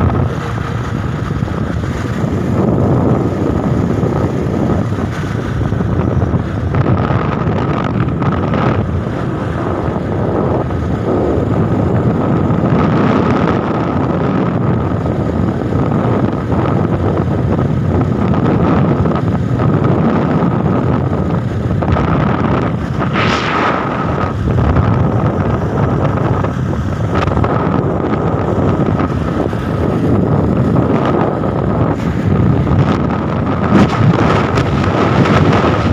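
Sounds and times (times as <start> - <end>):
wind rushing over microphone: 0.0 - 35.9.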